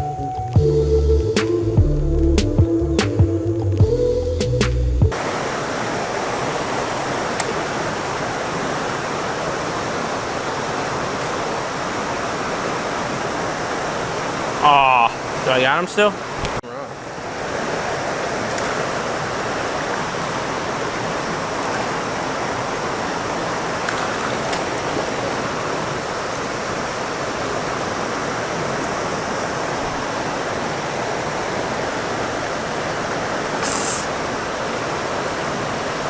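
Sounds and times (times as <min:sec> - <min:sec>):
creek water running: 0:05.1 - 0:36.0.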